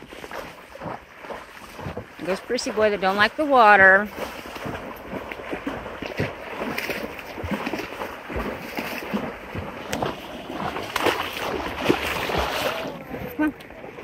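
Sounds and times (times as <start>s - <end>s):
hoof thuds: 0.0s - 12.6s
horse splashing through water: 0.0s - 14.0s.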